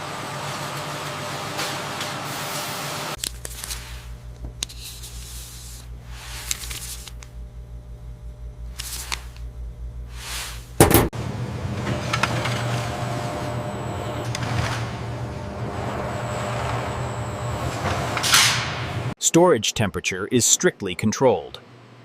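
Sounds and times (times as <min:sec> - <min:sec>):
factory machinery pulsing hum: 0:00.0 - 0:19.2.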